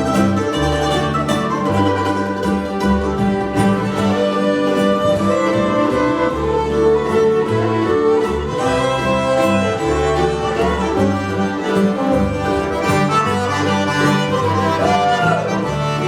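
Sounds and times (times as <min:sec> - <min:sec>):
fiddle playing tune: 0:00.0 - 0:16.0
guitar: 0:00.0 - 0:16.0
plucked upright bass: 0:00.0 - 0:16.0.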